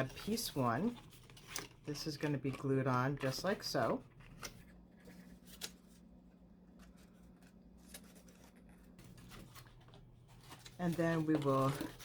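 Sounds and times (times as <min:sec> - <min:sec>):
cardstock handling: 0:00.0 - 0:12.0
low steady hum: 0:00.0 - 0:12.0.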